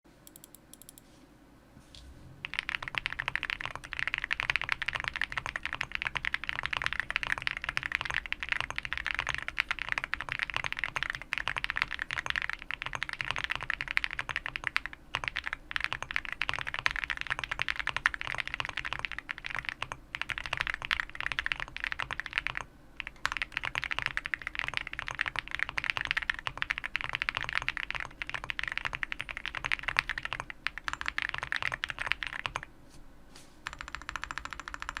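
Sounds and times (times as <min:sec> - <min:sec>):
fast mechanical keyboard typing: 0:02.4 - 0:32.7, 0:33.6 - 0:35.0.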